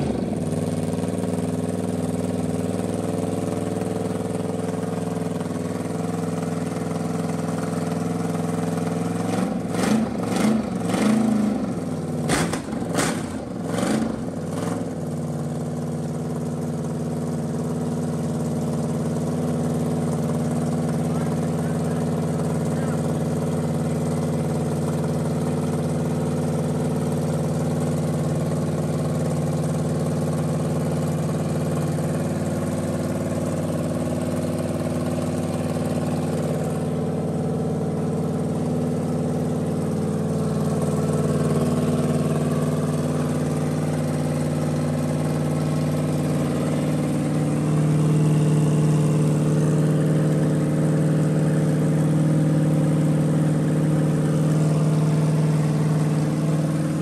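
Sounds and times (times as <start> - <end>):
engine running on stand: 0.0 - 57.0.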